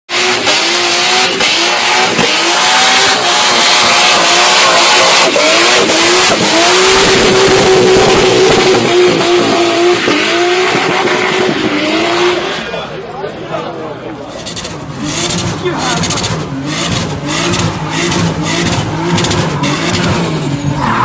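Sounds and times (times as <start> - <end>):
car engine at high revs: 0.1 - 12.8, 14.3 - 21.0.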